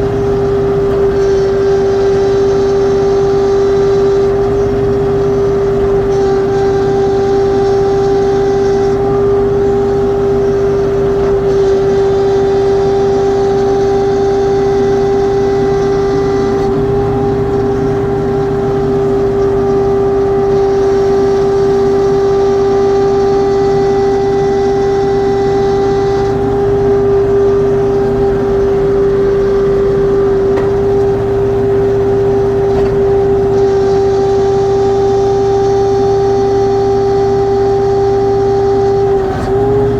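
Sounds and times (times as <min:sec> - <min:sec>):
hydraulic whine: 0:00.0 - 0:39.9
tractor engine running: 0:00.0 - 0:39.9.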